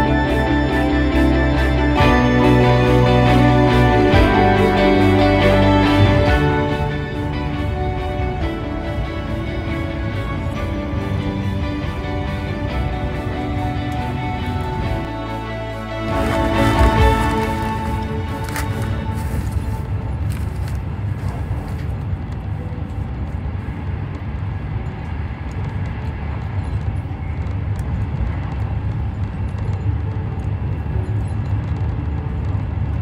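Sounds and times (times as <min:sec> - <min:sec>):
train rumble and hiss inside carriage: 0:00.0 - 0:33.0.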